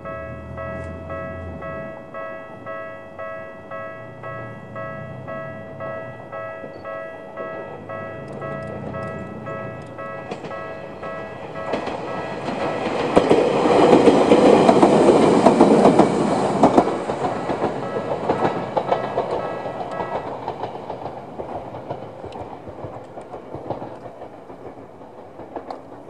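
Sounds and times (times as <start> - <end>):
level crossing warning bell: 0.0 - 26.0
train wheels clicking over rail joints: 0.0 - 26.0.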